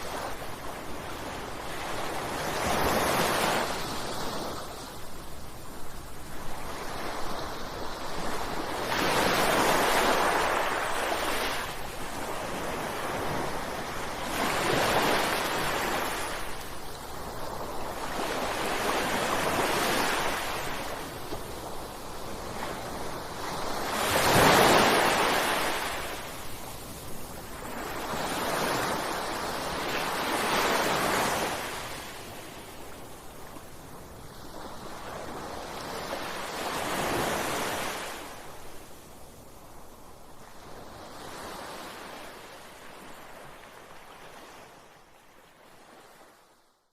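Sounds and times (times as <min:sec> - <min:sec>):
ocean waves breaking on shore: 0:00.0 - 0:46.7.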